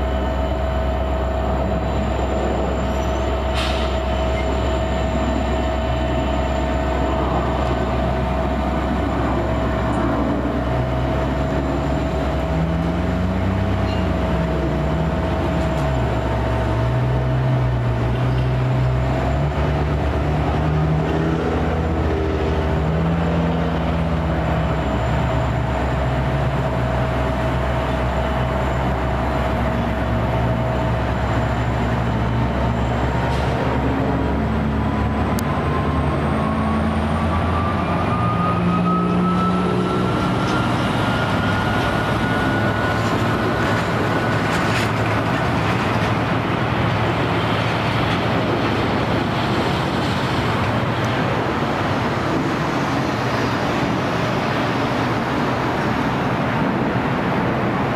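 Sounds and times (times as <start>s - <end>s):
diesel locomotive engine drone: 0.0s - 57.9s
rising whine: 0.0s - 57.9s.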